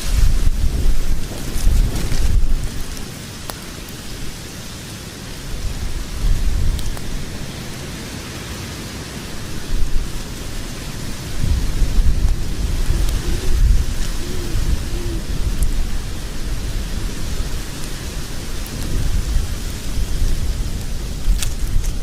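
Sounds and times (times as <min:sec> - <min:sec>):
fireplace flames rumbling: 0:00.0 - 0:22.0
wood crackling: 0:00.0 - 0:22.0.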